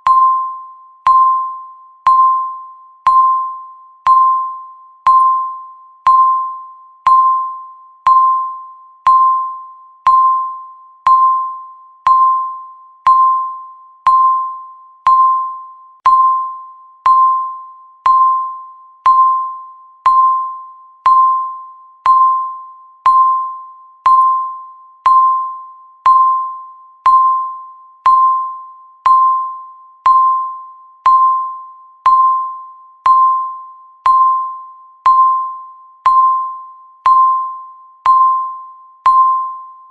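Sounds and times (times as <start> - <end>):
timer bell-like tick: 0.0 - 39.9.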